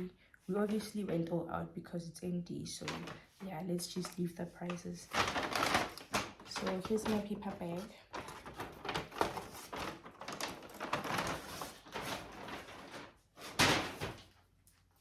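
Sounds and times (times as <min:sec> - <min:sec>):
paper bag rustling and crinkling: 0:00.6 - 0:01.1, 0:02.8 - 0:14.5.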